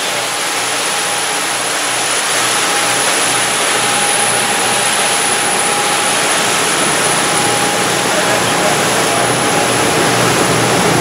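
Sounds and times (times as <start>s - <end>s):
boat engine: 0.0s - 11.0s
churning wake: 0.0s - 11.0s
thin steady whine: 0.0s - 11.0s
wind: 0.0s - 11.0s.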